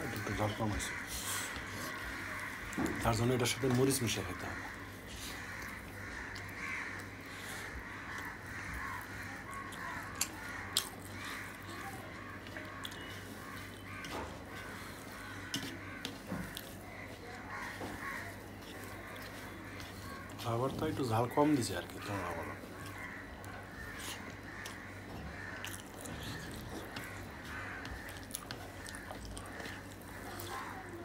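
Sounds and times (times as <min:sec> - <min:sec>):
animal calls: 0:00.0 - 0:31.0
fingers squishing food: 0:00.1 - 0:30.9.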